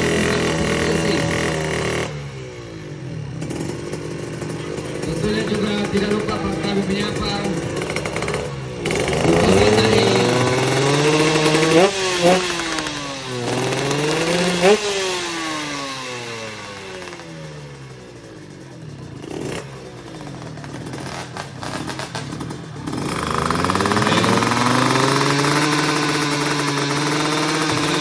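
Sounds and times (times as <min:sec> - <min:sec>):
motorcycle engine sputtering and popping: 0:00.0 - 0:28.0.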